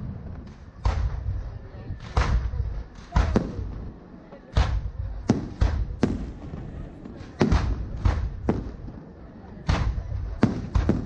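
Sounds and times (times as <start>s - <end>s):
firework bangs with echoing rumble: 0.0s - 11.0s.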